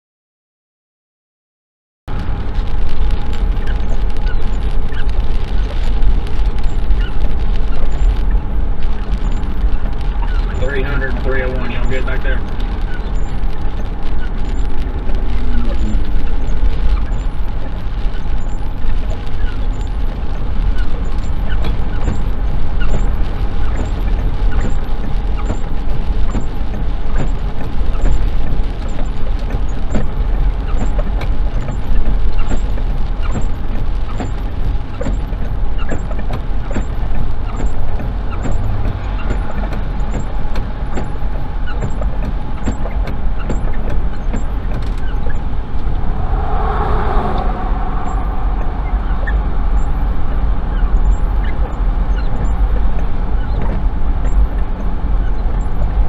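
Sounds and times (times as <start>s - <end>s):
rain hitting windshield: 2.1s - 46.0s, 48.8s - 56.0s
car road rumble: 2.1s - 56.0s.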